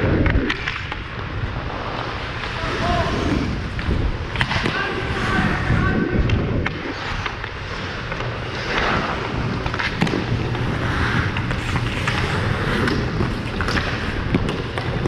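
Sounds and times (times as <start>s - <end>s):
low rumble: 0.0s - 14.5s
skate blades scraping ice: 0.4s - 15.0s.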